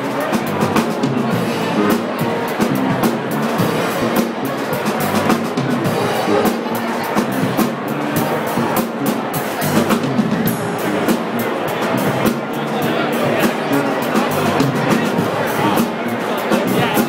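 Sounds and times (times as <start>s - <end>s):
drum kit cymbals and snare: 0.0s - 17.0s
electric bass line: 0.0s - 17.0s
jazz-funk band playing: 0.0s - 17.0s
keyboard: 0.0s - 17.0s.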